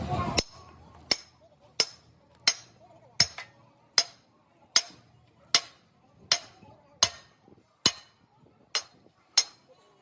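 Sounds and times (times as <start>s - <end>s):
hammer striking metal: 1.1s - 8.2s, 8.8s - 9.7s.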